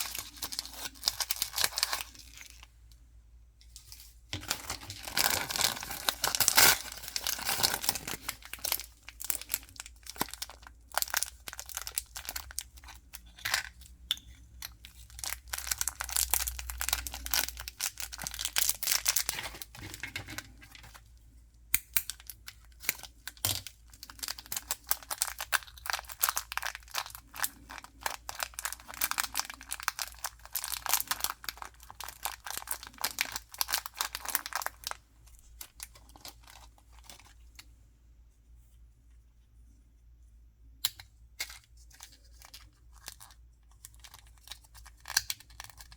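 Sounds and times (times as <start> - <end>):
toy packaging crinkling and tearing: 0.0 - 2.7, 3.8 - 14.0, 14.6 - 21.1, 22.0 - 37.6, 41.4 - 45.9.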